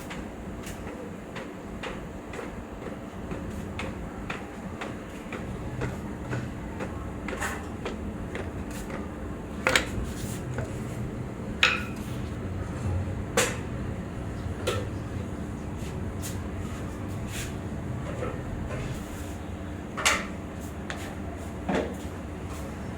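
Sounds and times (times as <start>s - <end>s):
low workshop hum: 0.0s - 22.9s.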